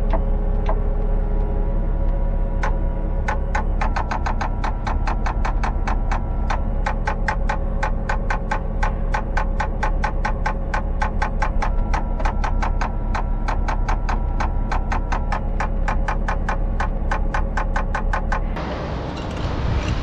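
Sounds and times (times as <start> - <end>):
steady low hum: 0.0 - 20.0
ticking background music: 2.1 - 18.6.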